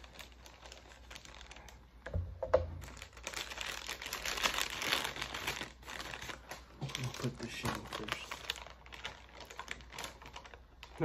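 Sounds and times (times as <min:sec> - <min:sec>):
plastic packets crinkling: 0:00.0 - 0:02.1, 0:02.7 - 0:11.0.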